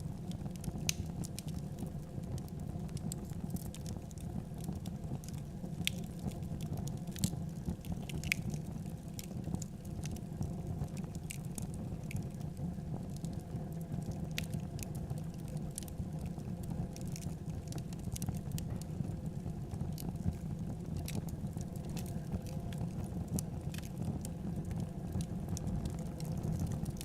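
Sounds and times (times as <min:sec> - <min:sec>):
low rumble of flames: 0:00.0 - 0:27.0
wood crackling and popping: 0:00.0 - 0:27.0.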